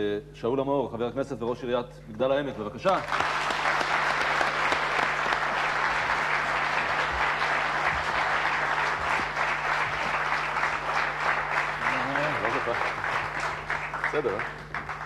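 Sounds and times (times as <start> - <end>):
studio audience applauding: 2.8 - 15.0.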